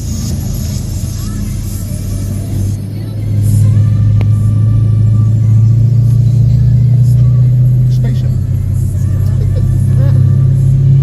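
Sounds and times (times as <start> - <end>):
music playing: 0.0 - 11.0
vehicle driving on road: 0.0 - 11.0.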